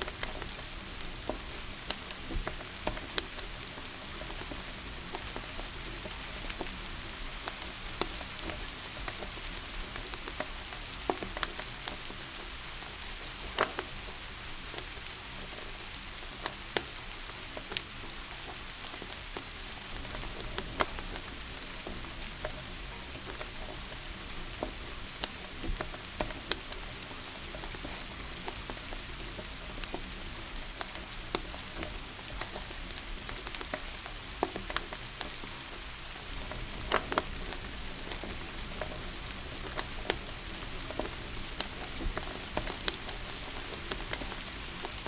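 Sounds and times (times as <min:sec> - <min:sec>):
rain hiss: 0:00.0 - 0:45.0
wood fire crackling: 0:00.0 - 0:45.0.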